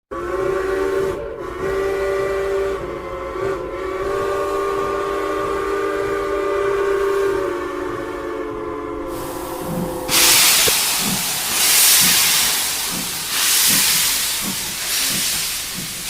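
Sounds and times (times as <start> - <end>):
steam locomotive whistle: 0.1 - 16.0.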